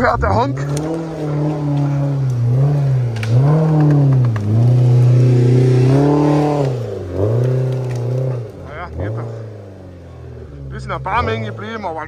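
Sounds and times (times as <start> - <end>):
offroad vehicle engine revving: 0.0 - 12.0.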